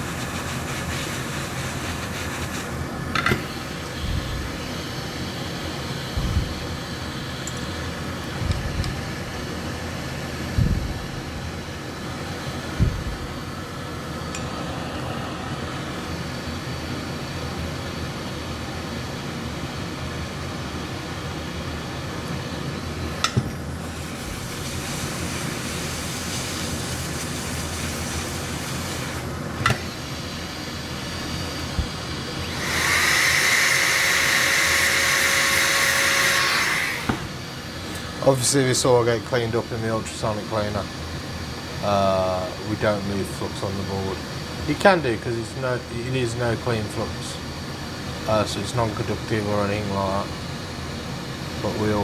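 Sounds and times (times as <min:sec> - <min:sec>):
air rush with high whine: 0:00.0 - 0:19.9, 0:21.0 - 0:52.0
fan noise: 0:00.0 - 0:52.0.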